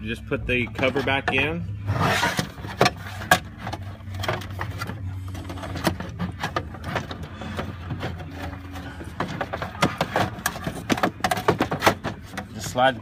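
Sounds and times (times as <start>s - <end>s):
steady low hum: 0.0s - 12.8s
plastic parts clicking and knocking: 0.7s - 13.0s.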